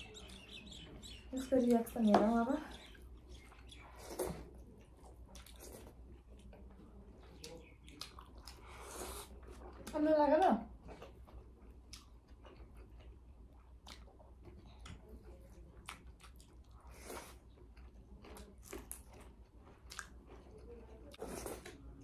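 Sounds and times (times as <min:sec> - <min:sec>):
chewing and mouth smacks: 0:02.9 - 0:10.0, 0:10.8 - 0:22.0.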